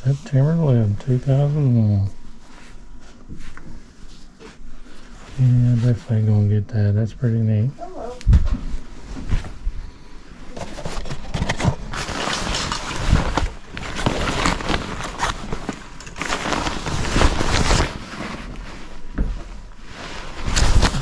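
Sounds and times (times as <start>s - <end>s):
clothing rustling: 0.0s - 6.4s, 7.8s - 9.8s, 10.4s - 21.0s.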